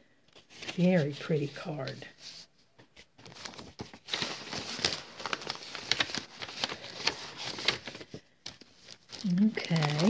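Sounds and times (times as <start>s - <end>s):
cellophane and card crackling: 0.3s - 10.0s.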